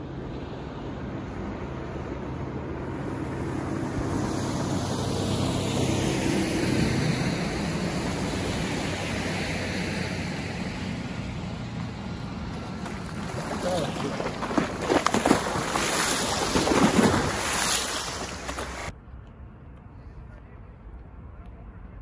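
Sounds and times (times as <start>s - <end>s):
rushing boat wake: 0.0s - 18.9s
motorboat engine hum: 0.0s - 21.8s.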